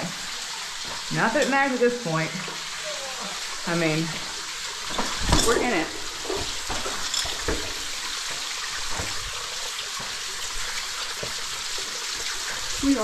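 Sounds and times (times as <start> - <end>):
waterfall spraying onto rock: 0.0 - 13.0.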